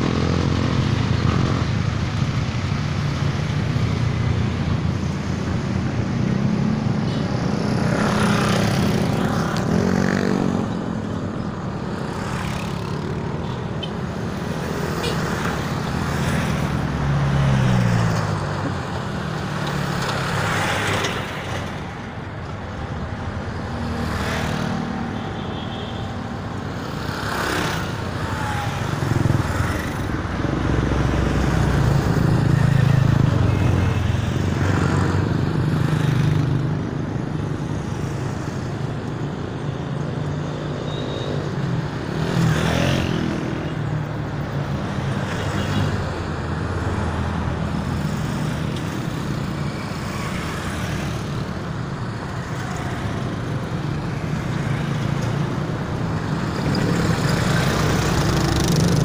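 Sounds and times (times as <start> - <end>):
motor vehicles passing: 0.0 - 59.0.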